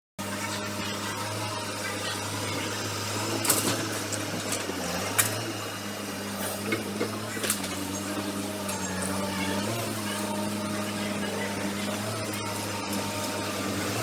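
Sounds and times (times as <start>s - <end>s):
excavator diesel engine running: 0.2s - 14.0s.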